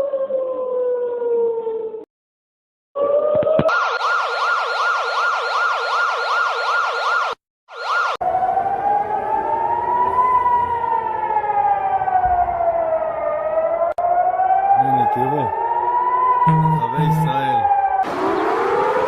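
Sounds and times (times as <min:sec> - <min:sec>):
slow wailing siren: 0:00.0 - 0:02.1, 0:03.0 - 0:19.0
fast warbling siren: 0:03.0 - 0:19.0.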